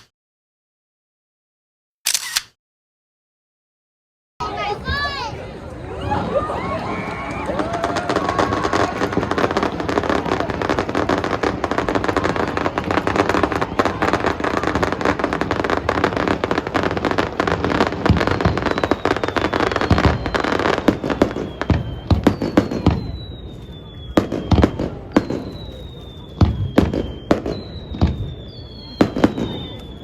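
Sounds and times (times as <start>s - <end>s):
fireworks crackling: 4.5s - 30.0s
fireworks bangs: 5.9s - 30.0s.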